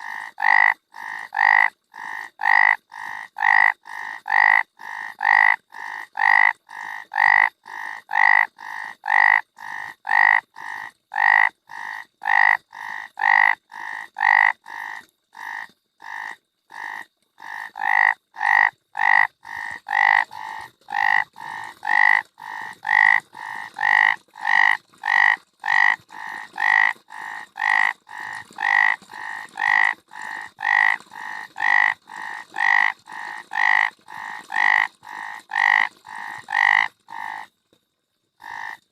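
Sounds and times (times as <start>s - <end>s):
frogs croaking: 0.0s - 37.5s, 38.4s - 38.9s.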